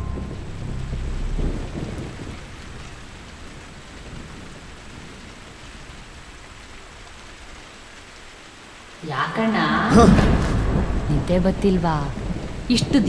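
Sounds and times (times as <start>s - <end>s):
low rumble of thunder: 0.0s - 8.0s, 9.8s - 13.0s
steady rain hiss: 0.0s - 13.0s.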